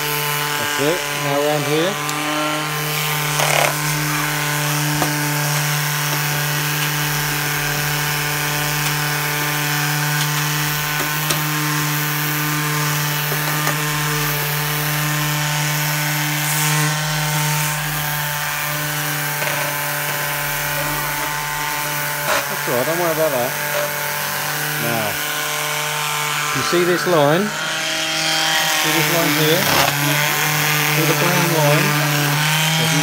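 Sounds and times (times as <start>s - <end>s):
electric sander running: 0.0s - 33.0s.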